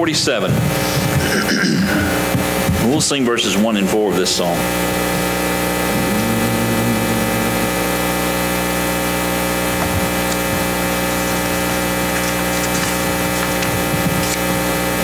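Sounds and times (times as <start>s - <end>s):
electrical hum and buzz: 0.1s - 15.0s.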